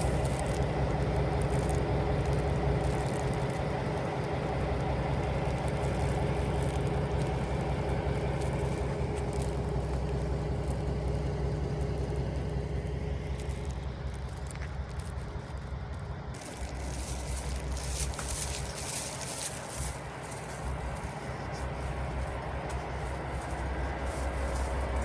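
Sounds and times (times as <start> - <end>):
diesel railcar engine hum: 0.0 - 25.0.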